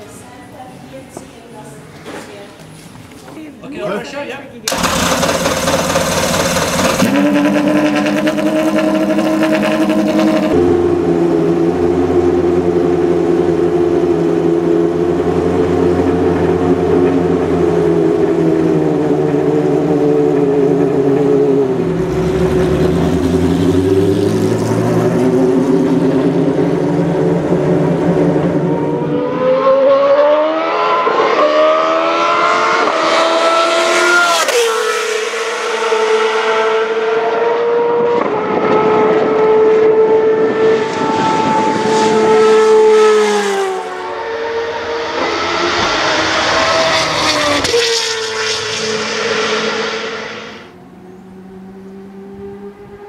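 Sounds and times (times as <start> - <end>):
race car engine revving: 4.7 - 53.0.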